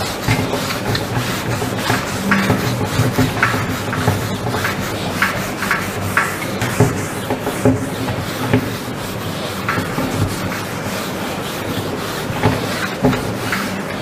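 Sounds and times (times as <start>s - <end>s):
eraser rubbing on whiteboard: 0.0s - 14.0s.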